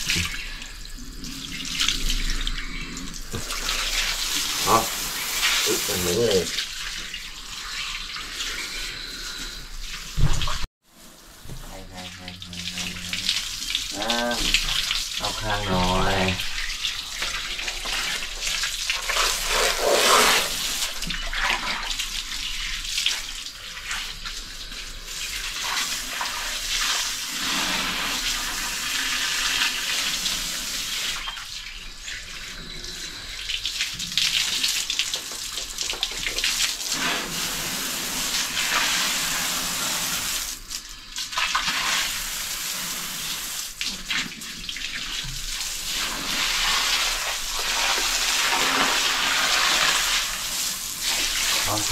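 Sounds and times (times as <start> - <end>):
hose water splashing on concrete: 0.0 - 51.9.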